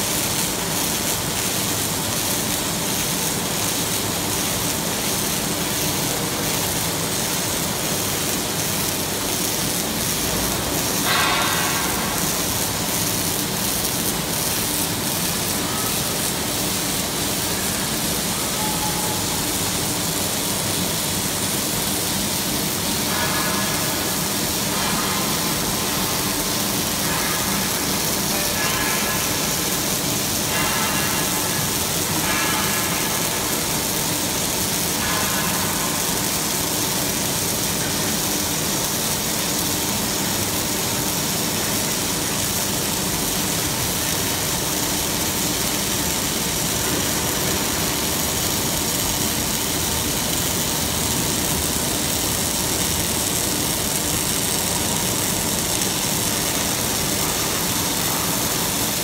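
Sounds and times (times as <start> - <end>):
arc welding hiss: 0.0 - 59.0.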